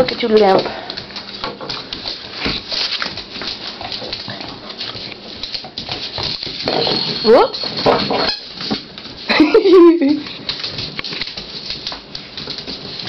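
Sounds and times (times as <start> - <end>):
paws scuffling on tiled floor: 0.0 - 13.0.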